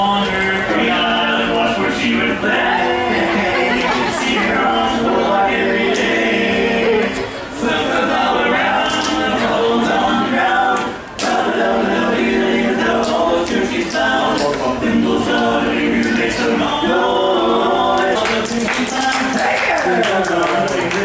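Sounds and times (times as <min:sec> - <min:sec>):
group singing a cappella: 0:00.0 - 0:21.0.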